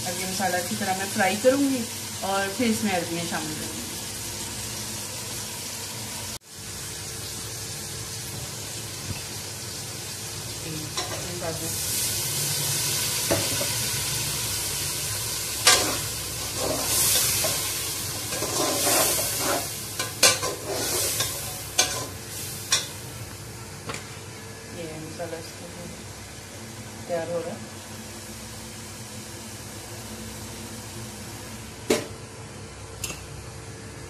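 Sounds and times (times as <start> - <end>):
masala sizzling in a pot: 0.0 - 34.0.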